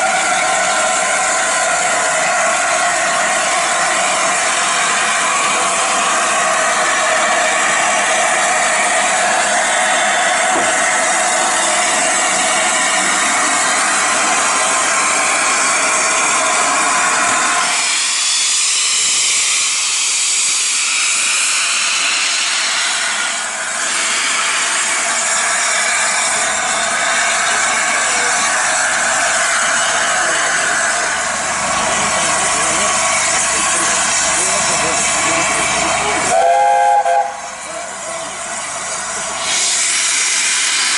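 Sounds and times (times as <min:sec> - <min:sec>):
steam hissing from locomotive: 0:00.0 - 0:40.9.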